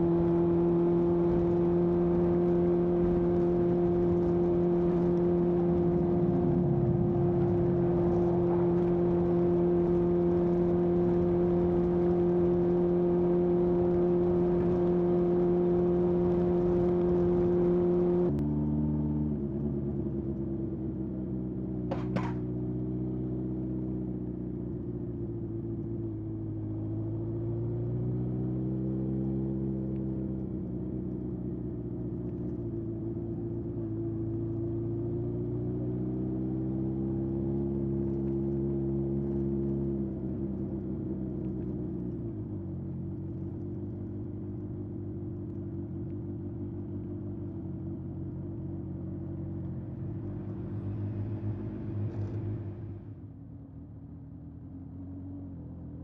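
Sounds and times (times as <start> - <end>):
motorcycle exhaust running: 0.0 - 50.9.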